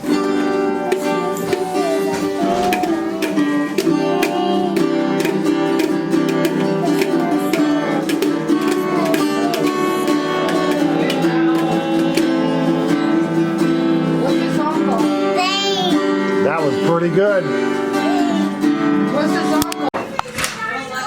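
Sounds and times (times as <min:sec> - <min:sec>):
plucked string instrument song: 0:00.0 - 0:20.0.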